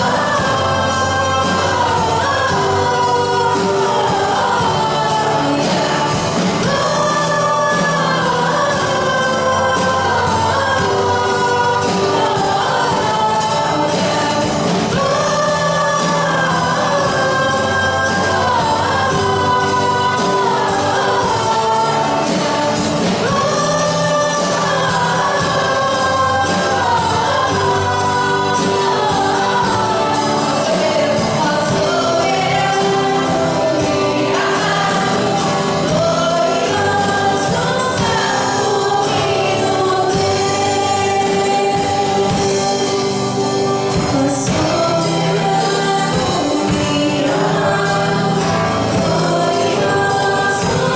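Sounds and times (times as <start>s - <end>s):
band accompaniment: 0.0s - 50.9s
group singing worship song: 0.0s - 50.9s.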